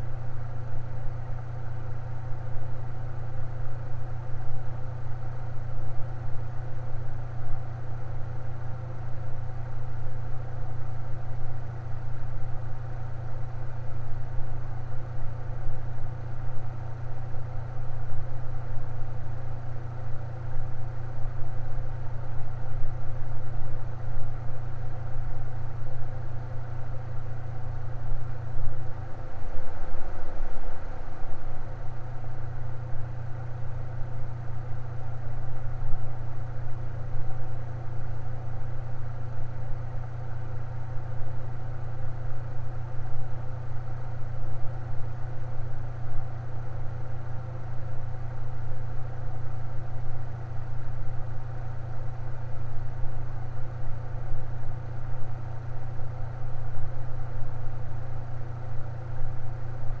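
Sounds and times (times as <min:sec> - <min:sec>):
electric fan motor hum: 0:00.0 - 1:00.0.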